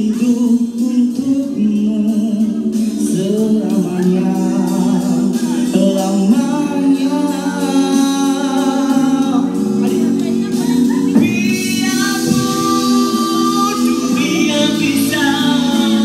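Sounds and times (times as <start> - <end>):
backing music: 0.0 - 16.0
men singing into microphones: 0.0 - 16.0.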